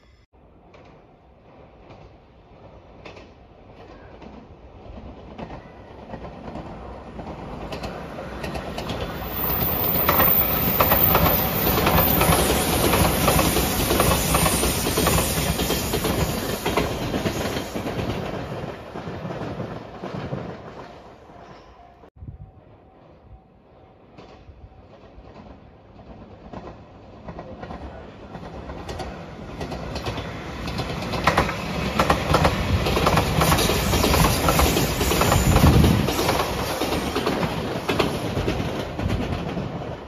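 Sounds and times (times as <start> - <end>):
electric train passing at speed: 0.0 - 40.0.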